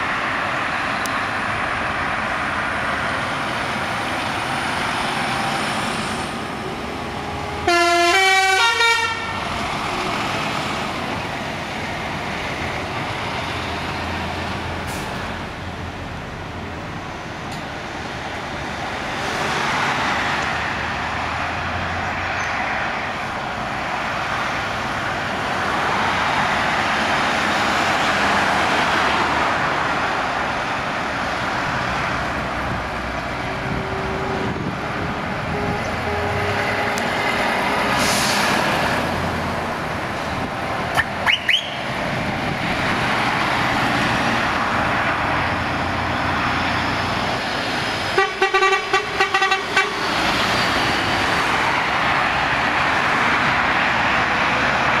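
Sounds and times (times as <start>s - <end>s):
heavy lorries and vans driving past: 0.0s - 55.0s.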